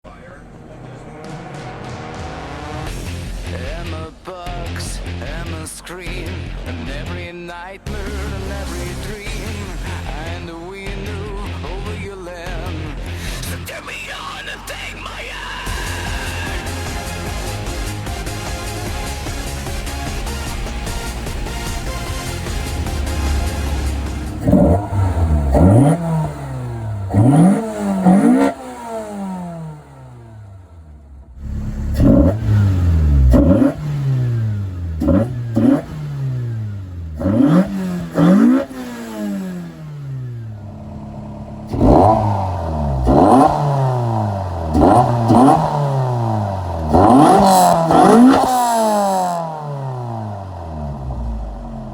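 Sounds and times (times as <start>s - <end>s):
engine revving: 0.0s - 7.3s, 7.9s - 13.9s, 15.4s - 51.9s.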